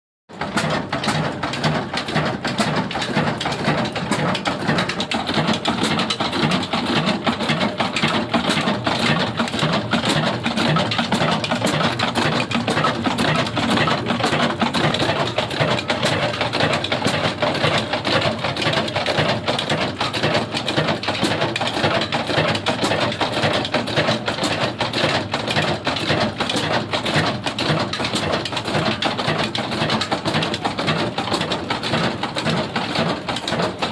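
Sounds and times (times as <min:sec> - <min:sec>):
diesel engine clattering: 0:00.4 - 0:33.9.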